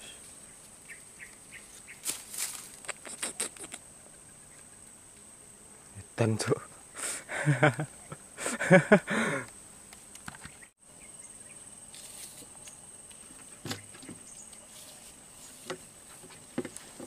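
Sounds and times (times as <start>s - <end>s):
high-pitched insect trill: 0.0s - 16.9s.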